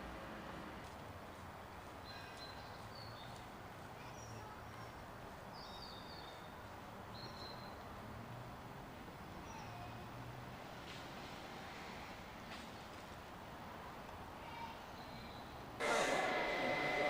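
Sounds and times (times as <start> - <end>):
faint background noise: 0.0 - 17.0.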